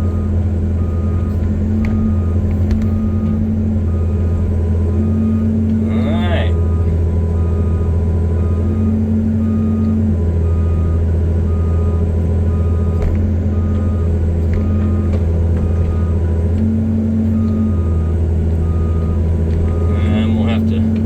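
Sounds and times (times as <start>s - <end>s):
excavator diesel engine running: 0.0s - 21.0s
high reversing alarm beeps: 0.0s - 21.0s.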